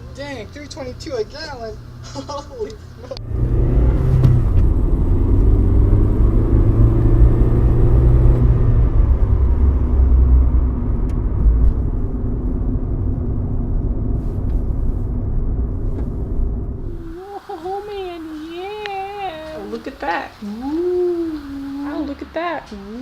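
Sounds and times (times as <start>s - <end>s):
car engine: 0.0s - 23.0s
road rumble: 0.0s - 23.0s.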